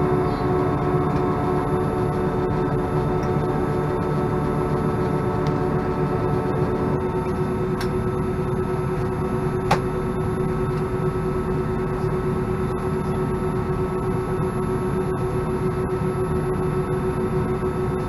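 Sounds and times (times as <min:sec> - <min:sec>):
airplane cabin drone: 0:00.0 - 0:18.0
whining tone: 0:00.0 - 0:18.0.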